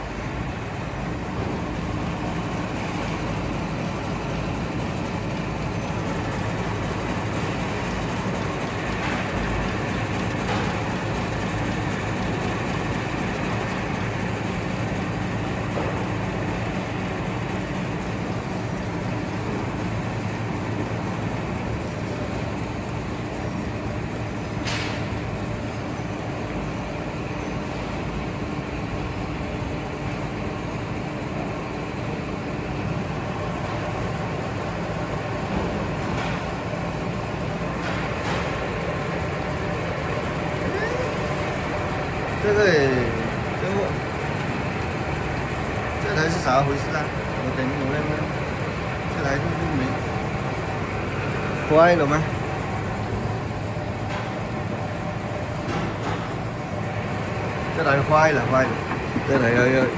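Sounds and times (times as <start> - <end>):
humidifiers whirring: 0.0 - 59.9.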